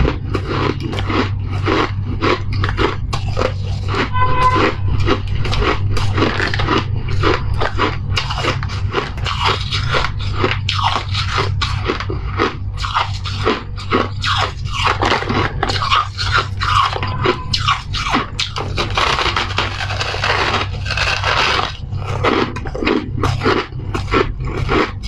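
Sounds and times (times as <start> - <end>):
crunching and chewing ice: 0.0 - 25.0
steady low hum: 0.0 - 25.0.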